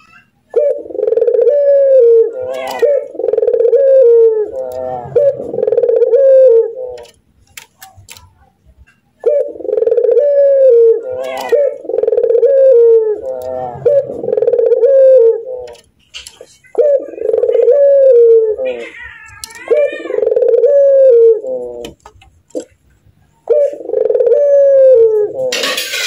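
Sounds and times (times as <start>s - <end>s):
dove rolling laughing coo: 0.0s - 7.0s, 9.2s - 15.7s, 16.5s - 22.0s, 23.2s - 26.0s.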